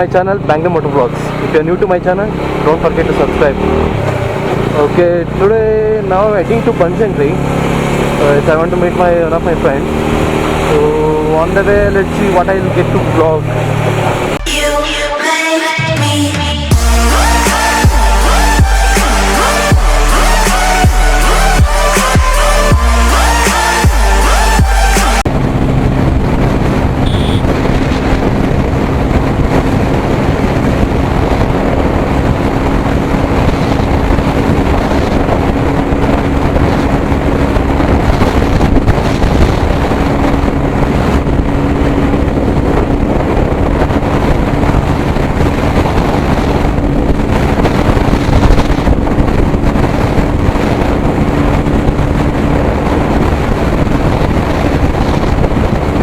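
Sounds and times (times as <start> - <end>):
motorcycle engine cruising: 0.0 - 14.4, 16.4 - 56.0
wind noise on microphone: 1.3 - 14.4, 16.7 - 56.0.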